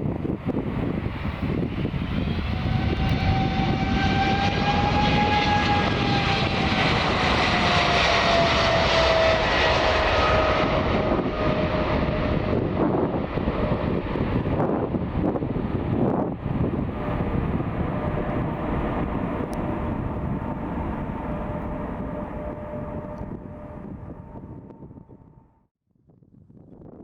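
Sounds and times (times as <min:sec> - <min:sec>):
jet engines roaring past: 0:00.0 - 0:25.5.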